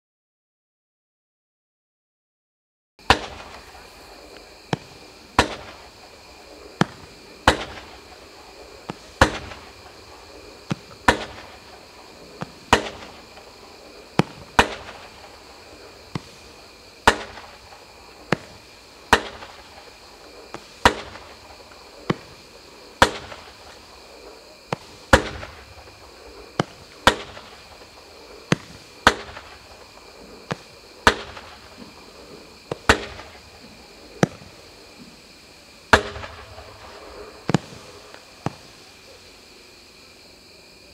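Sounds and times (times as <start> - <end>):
fireworks shell bangs: 3.0 - 34.6, 35.9 - 38.9
fireworks launch pops: 3.0 - 39.4.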